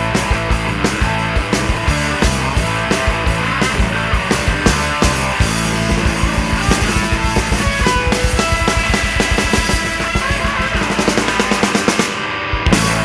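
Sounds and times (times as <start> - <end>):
fast rock music with drums: 0.0 - 13.0.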